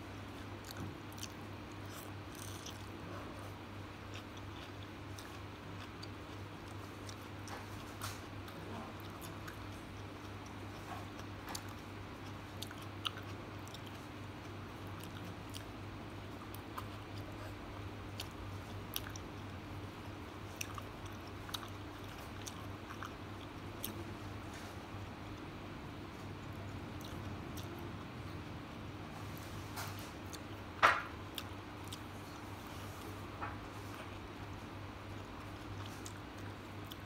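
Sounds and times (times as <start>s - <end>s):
person chewing food: 0.3s - 37.0s.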